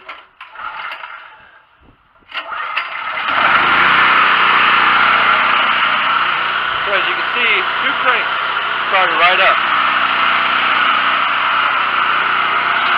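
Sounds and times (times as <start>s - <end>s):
generator engine cranking and running: 0.0s - 12.9s.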